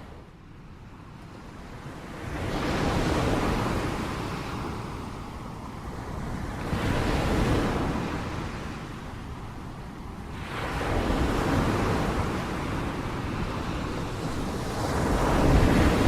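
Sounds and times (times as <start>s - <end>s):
ocean waves crashing on shore: 0.0s - 16.0s.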